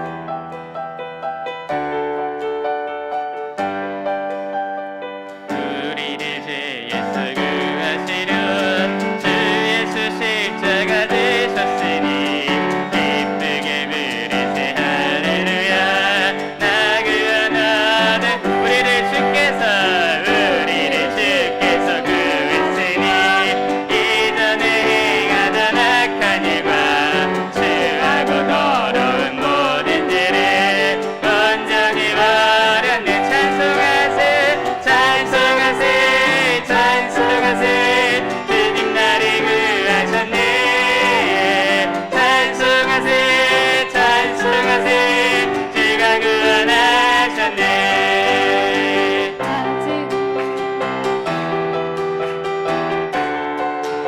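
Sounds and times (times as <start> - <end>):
piano accompaniment: 0.0 - 54.0
group singing with vibrato: 5.3 - 54.0.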